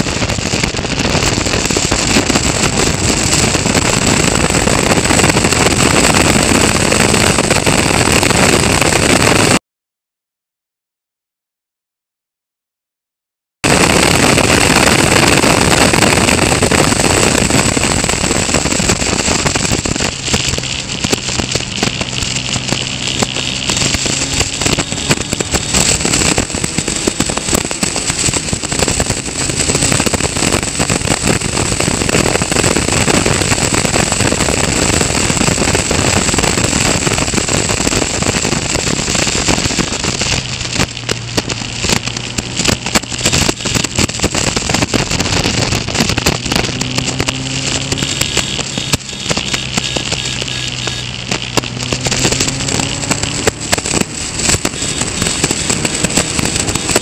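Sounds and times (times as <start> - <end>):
crackling: 0.0 - 9.6, 13.6 - 57.0
race car engine: 0.0 - 9.6, 13.6 - 57.0
wind buffeting microphone: 0.0 - 9.6, 13.6 - 57.0.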